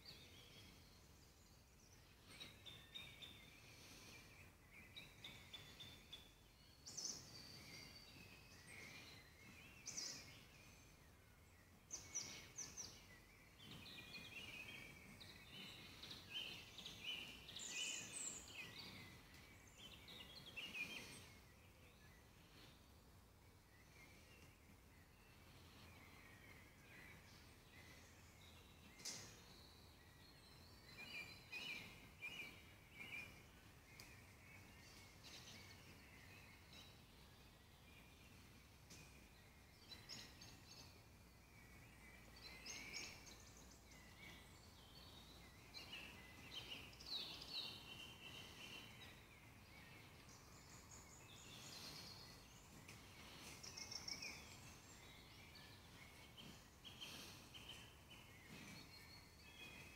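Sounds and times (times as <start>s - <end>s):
low steady background hiss: 0.0s - 59.9s
small birds chirping and trilling: 0.0s - 59.9s.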